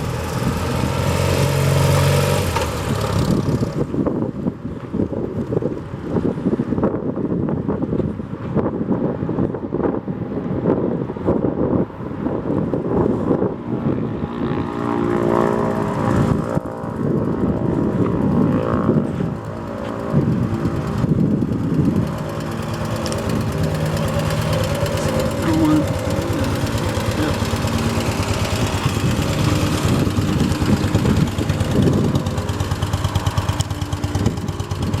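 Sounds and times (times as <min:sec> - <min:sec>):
motorcycle engine running: 0:00.0 - 0:07.9, 0:13.0 - 0:35.0.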